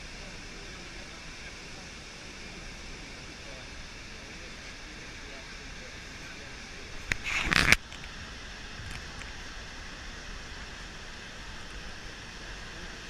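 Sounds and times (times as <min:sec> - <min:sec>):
loud burst of noise: 0:00.0 - 0:13.0
waterfall roaring: 0:00.0 - 0:13.0.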